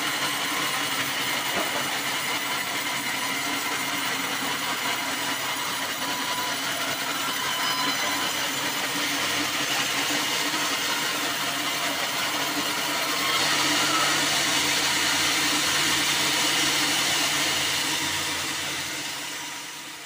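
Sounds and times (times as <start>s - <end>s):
band saw whirring: 0.0s - 20.0s.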